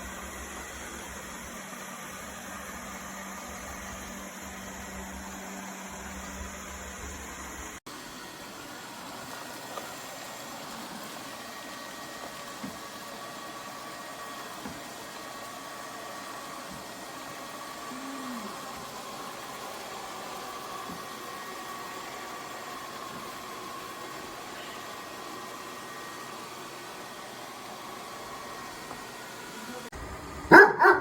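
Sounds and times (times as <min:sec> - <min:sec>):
robot vacuum whirring: 0:00.0 - 0:31.0.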